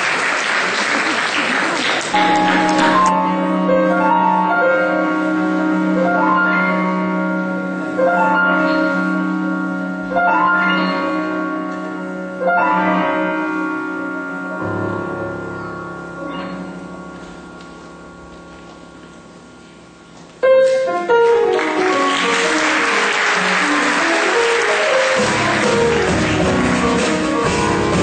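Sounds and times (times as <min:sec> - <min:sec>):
jazz piano chords: 0:02.1 - 0:28.0.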